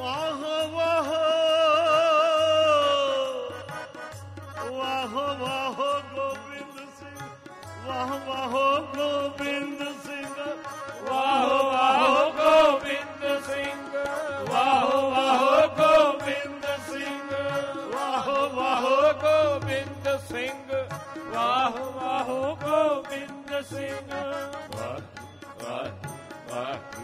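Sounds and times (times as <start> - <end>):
harmonium: 0.0 - 27.0
tabla drumming: 0.0 - 27.0
voices singing: 0.1 - 27.0.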